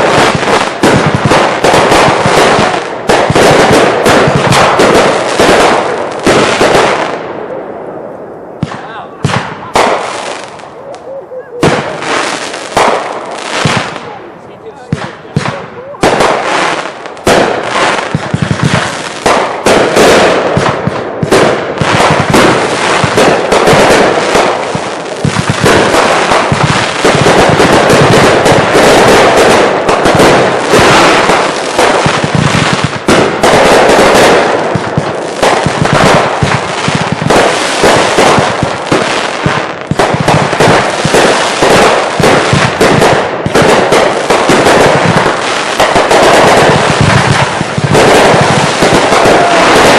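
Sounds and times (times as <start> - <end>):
fireworks barrage bangs and crackling: 0.0 - 49.9.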